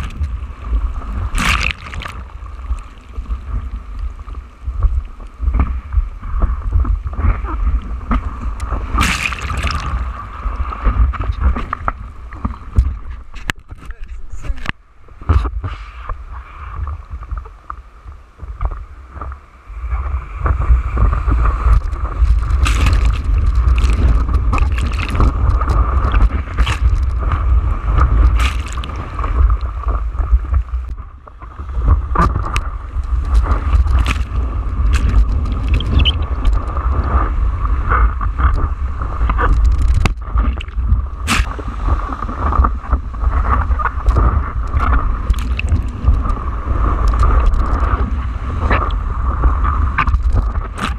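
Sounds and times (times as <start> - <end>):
water splashing against camera: 0.0 - 5.8, 6.4 - 16.1, 20.4 - 50.9
rushing seawater rumble: 0.0 - 50.9
wind on microphone: 0.0 - 50.9.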